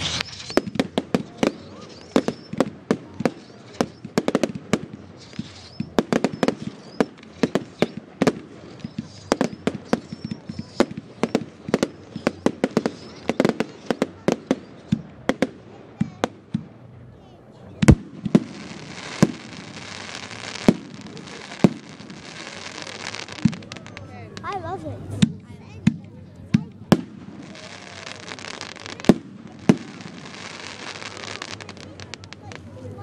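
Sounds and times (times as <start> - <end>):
fireworks bangs: 0.0 - 16.9, 17.6 - 33.0.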